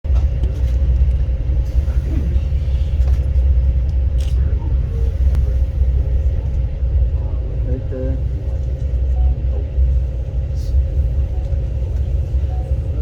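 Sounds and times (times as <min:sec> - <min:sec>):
train rumbling along track: 0:00.0 - 0:13.0
faint hum: 0:00.1 - 0:13.0.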